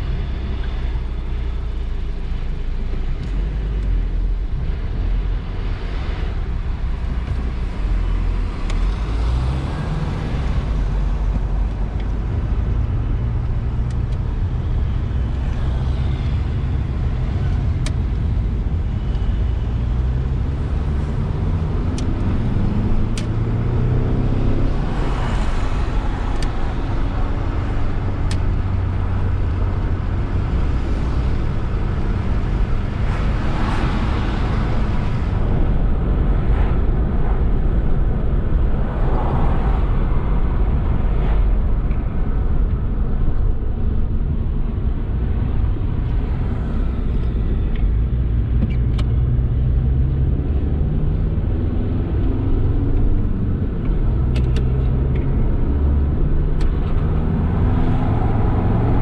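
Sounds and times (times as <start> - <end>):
vehicles driving past: 0.0 - 59.0.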